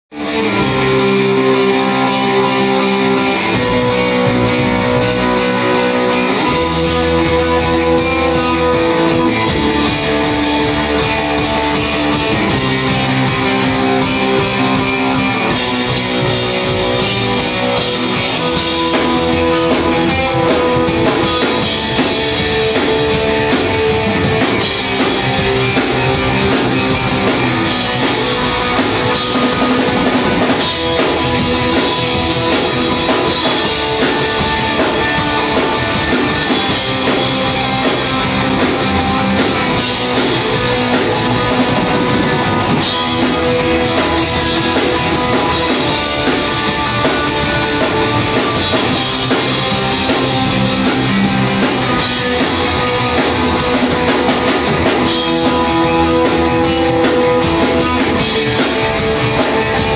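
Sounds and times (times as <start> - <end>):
electric guitar: 0.0 - 59.9
drum kit with cymbal beats: 0.2 - 59.9.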